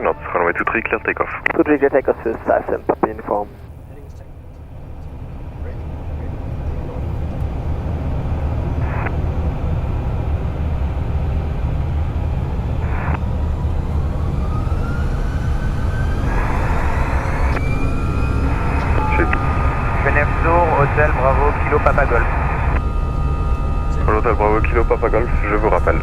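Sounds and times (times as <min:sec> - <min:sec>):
jet engines spooling up: 0:01.1 - 0:26.0.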